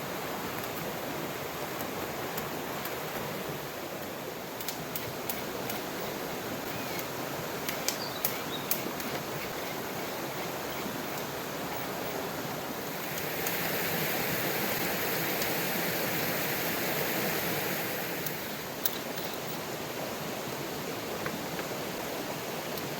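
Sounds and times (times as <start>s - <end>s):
river flowing: 0.0s - 22.9s.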